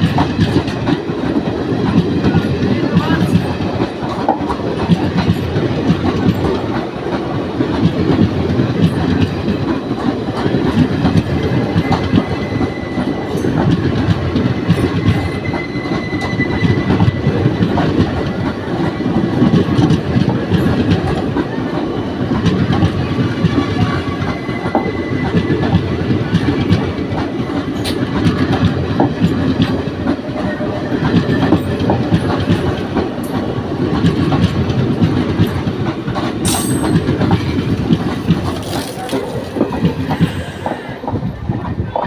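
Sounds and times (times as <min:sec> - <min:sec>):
clickety-clack of rail joints: 0:00.0 - 0:42.0
train wheels rumbling on rails: 0:00.0 - 0:42.0.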